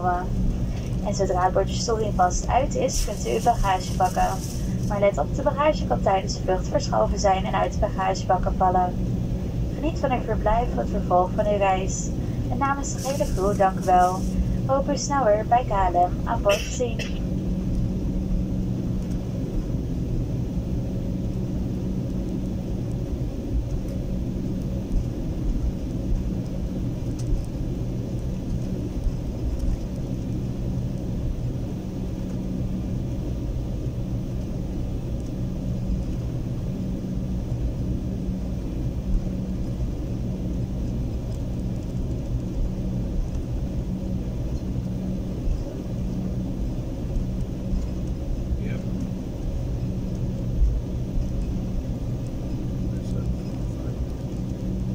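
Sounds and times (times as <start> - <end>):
jet engines idling: 0.0 - 54.9
low hum: 0.0 - 54.9.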